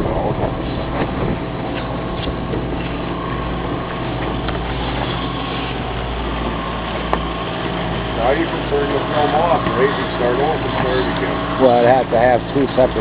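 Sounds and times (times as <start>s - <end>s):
boat motor humming: 0.0s - 13.0s
constant rushing noise: 0.0s - 13.0s.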